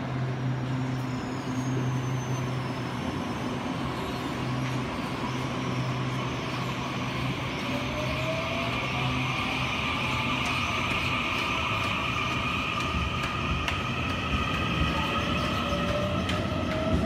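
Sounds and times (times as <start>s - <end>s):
rising whine of traction motors: 0.0s - 17.0s
train equipment humming: 0.0s - 17.0s.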